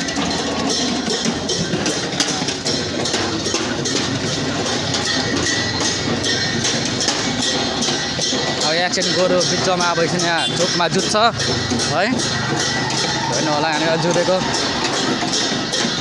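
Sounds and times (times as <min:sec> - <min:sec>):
music with steady percussive beat: 0:00.0 - 0:16.0.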